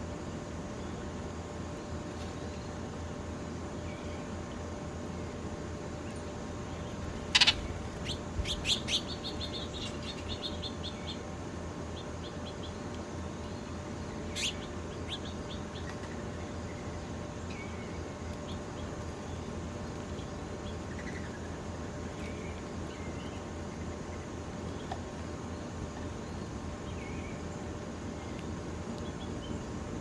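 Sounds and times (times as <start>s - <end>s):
low background hum: 0.0s - 30.0s
songbirds chirping: 0.0s - 30.0s.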